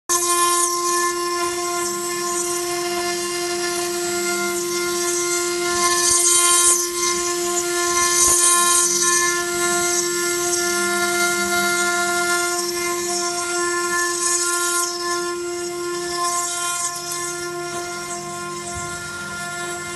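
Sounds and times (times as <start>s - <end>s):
bit cutting stone hiss: 0.1s - 19.9s
router spindle whine: 0.1s - 19.9s.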